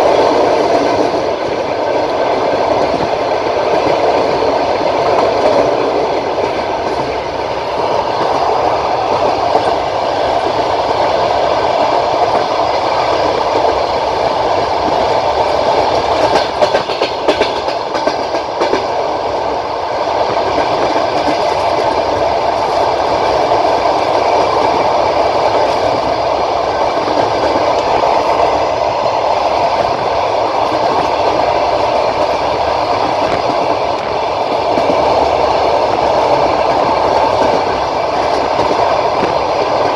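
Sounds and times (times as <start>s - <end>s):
sharp clacks of train wheels: 0.0s - 39.9s
train wheels rumbling on rails: 0.0s - 39.9s.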